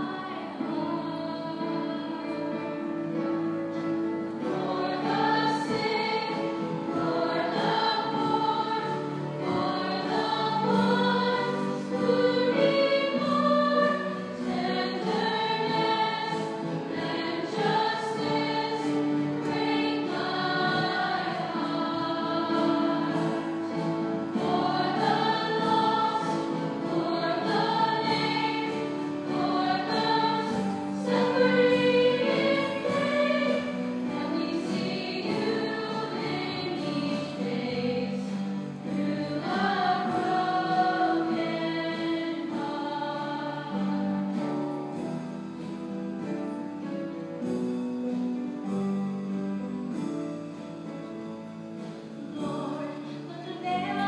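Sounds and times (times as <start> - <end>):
choir singing: 0.0 - 46.3, 52.2 - 54.0.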